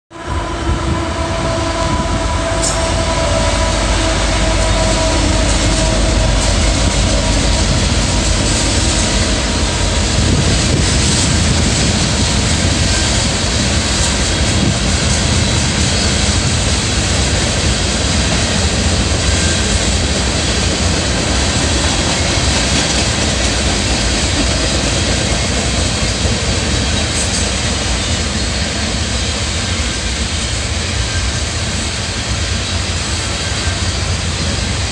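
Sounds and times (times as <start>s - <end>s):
freight cars rumbling over rails: 0.1s - 34.9s
locomotive hum: 0.1s - 34.9s.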